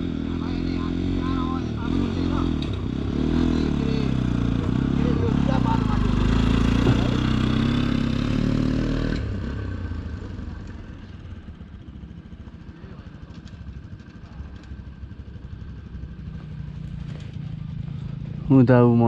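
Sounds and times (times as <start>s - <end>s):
motorcycle engine passing: 0.0s - 19.0s.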